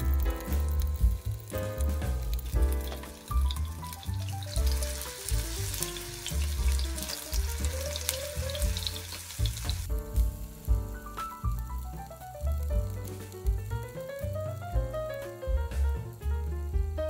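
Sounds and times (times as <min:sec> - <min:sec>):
fritters sizzling in oil: 0:00.0 - 0:16.5
background music: 0:00.0 - 0:17.0.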